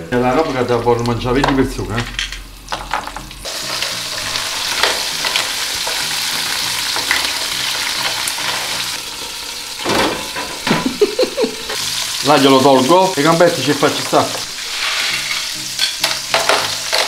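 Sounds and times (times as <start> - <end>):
oil sizzling in frying pan: 1.6 - 17.0.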